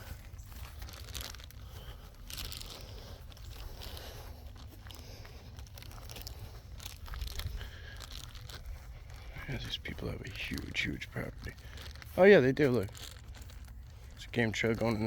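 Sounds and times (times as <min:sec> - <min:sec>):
dry leaves crunching underfoot: 0:00.0 - 0:15.0.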